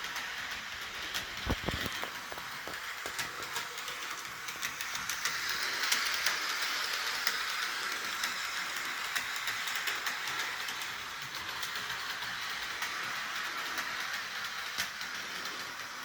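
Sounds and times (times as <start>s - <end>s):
model train whirring: 0.0s - 16.0s
small clicks: 1.1s - 15.6s.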